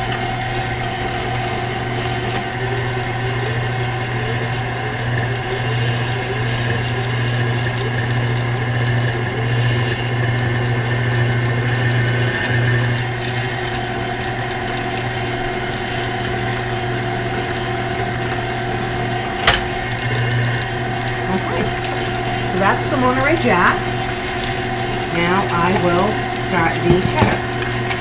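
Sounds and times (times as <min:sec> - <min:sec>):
cheese being shredded: 0:00.0 - 0:26.4
stand mixer motor running: 0:00.0 - 0:28.0.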